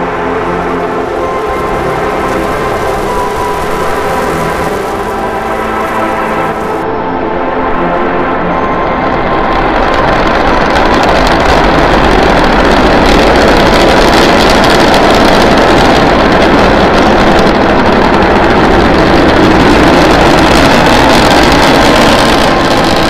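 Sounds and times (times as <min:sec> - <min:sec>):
rocket engines firing: 0:00.0 - 0:06.8, 0:08.9 - 0:23.0.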